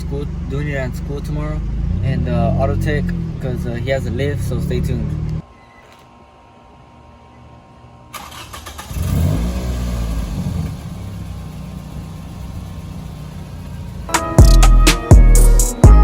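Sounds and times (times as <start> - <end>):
car engine starting and idling: 0.0 - 5.4, 8.1 - 16.0.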